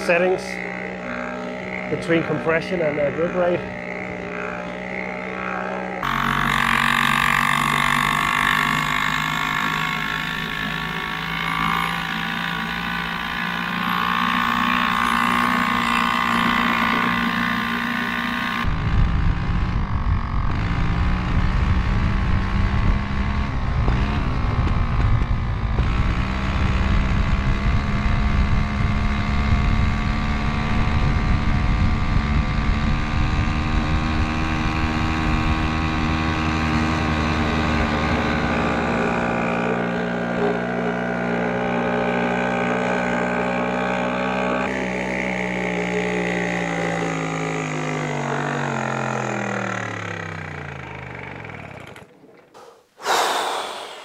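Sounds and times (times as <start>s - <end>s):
moped engine buzzing: 0.0s - 54.0s.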